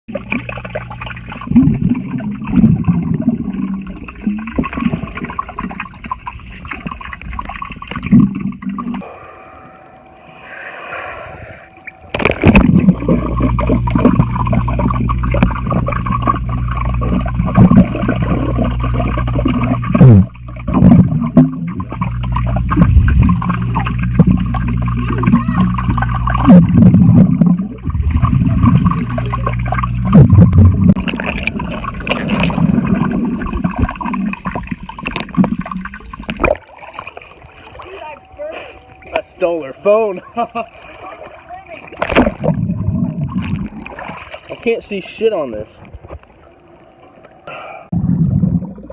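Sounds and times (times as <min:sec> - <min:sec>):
low hum: 0:00.1 - 0:44.6
underwater gurgling and bubbling: 0:00.1 - 0:44.6, 0:45.8 - 0:48.9.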